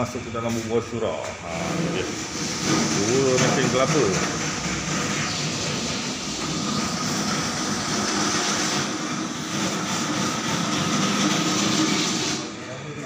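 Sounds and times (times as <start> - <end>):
coconut grating machine whirring: 0.0 - 13.0.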